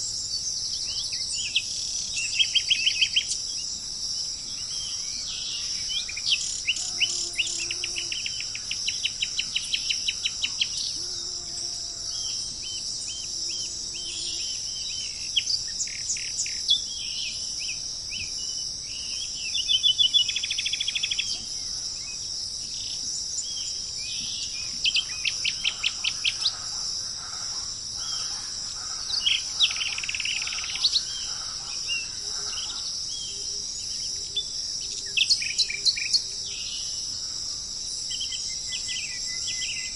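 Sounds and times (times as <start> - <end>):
insects droning: 0.0 - 39.9
tropical birds chirping: 0.0 - 39.9.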